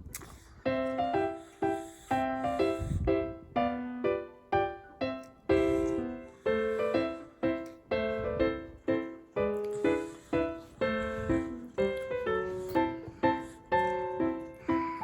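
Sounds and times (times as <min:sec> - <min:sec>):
gentle piano melody: 0:00.6 - 0:15.0.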